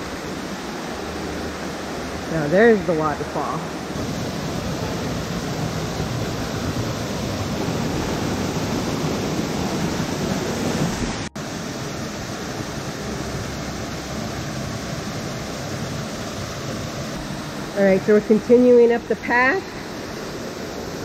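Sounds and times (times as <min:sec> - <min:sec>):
waterfall splashing into pool: 0:00.0 - 0:17.7.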